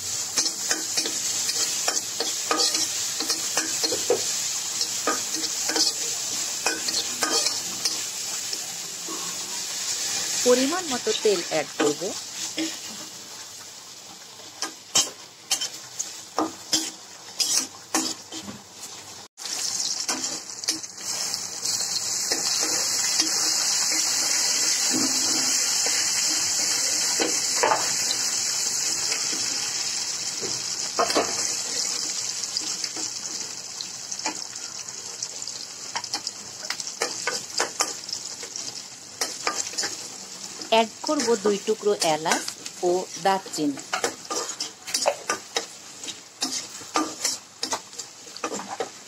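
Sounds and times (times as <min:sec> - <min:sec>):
vegetables sizzling in hot oil: 0:00.0 - 0:49.0
spatula scraping a wok: 0:00.1 - 0:13.5, 0:14.6 - 0:18.9, 0:19.5 - 0:30.4, 0:36.0 - 0:49.0.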